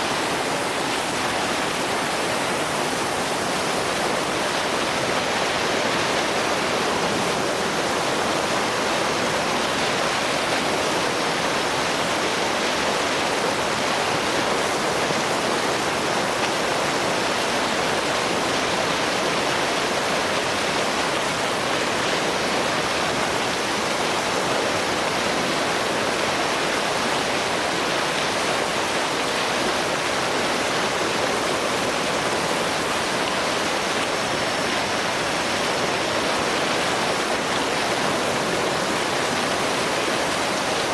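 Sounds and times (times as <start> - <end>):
water rushing over rapids: 0.0 - 40.9.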